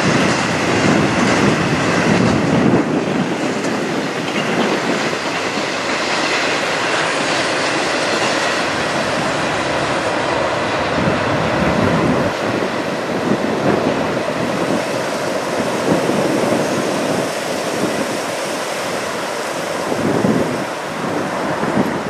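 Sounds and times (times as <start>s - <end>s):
distant freight train rolling: 0.0s - 22.0s
wind buffeting the microphone: 0.0s - 22.0s.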